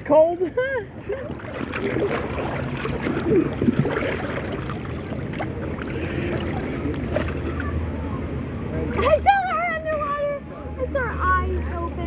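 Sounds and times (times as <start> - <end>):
faint distant voices: 0.0 - 12.0
water sloshing and rushing: 0.0 - 12.0.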